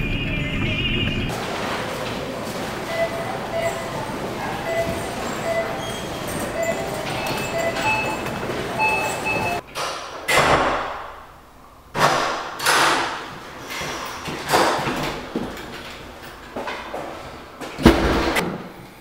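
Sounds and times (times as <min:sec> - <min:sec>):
doors banging shut with echo: 0:00.0 - 0:18.8.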